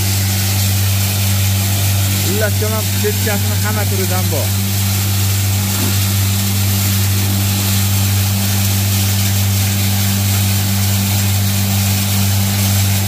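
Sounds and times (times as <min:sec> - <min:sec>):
grain crusher motor hum: 0:00.0 - 0:13.0
hiss of milling grain: 0:00.0 - 0:13.0.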